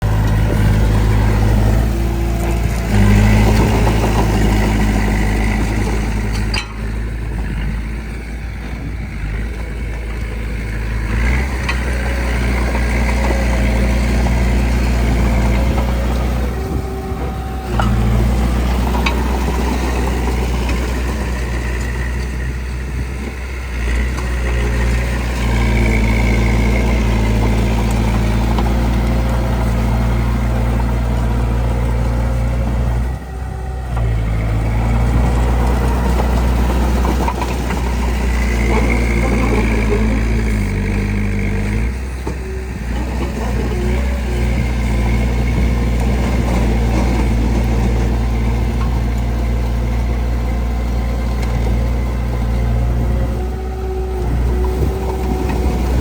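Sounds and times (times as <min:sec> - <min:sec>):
heavy diesel machinery engines: 0:00.0 - 0:56.0.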